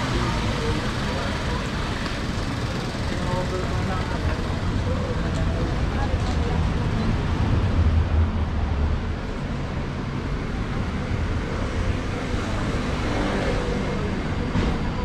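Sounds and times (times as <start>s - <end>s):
street noise: 0.0s - 15.0s
vehicle engine rumble: 0.0s - 15.0s.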